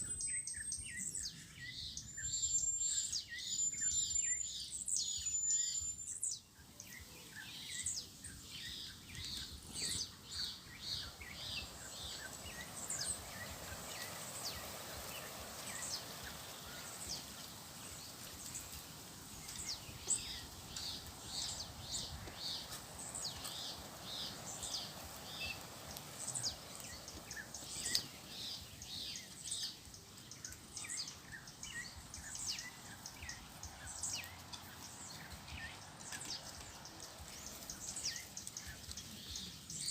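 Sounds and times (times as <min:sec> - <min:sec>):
birds chirping: 0:00.0 - 0:39.9
faint background hiss: 0:00.0 - 0:39.9.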